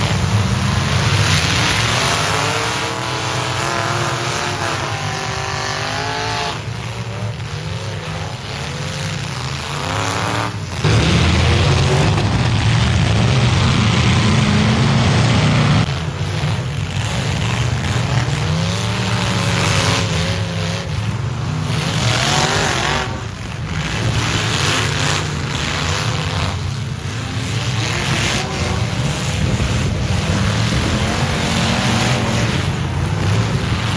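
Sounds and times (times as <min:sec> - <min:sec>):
truck engines revving: 0:00.0 - 0:33.9.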